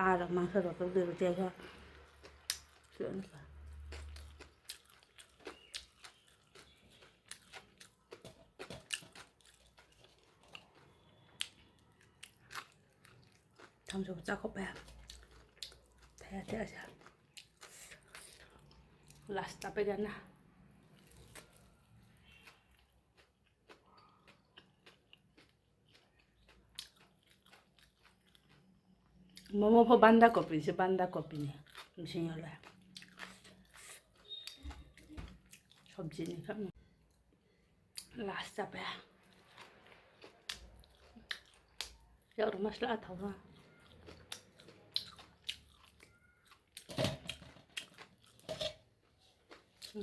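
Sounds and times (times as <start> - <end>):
person chewing crunchy food: 1.6 - 19.3, 20.7 - 29.5, 31.3 - 36.0, 39.1 - 42.4, 43.4 - 50.0.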